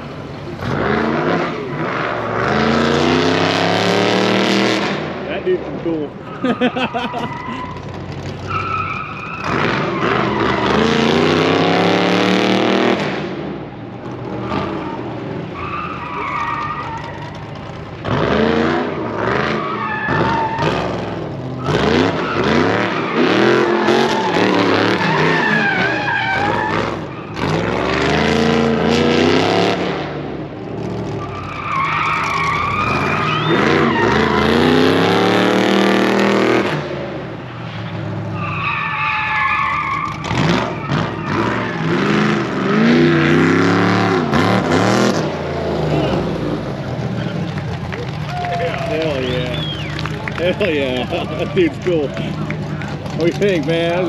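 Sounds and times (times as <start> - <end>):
tires squealing: 0.0 - 54.0
truck engine revving: 0.0 - 54.0.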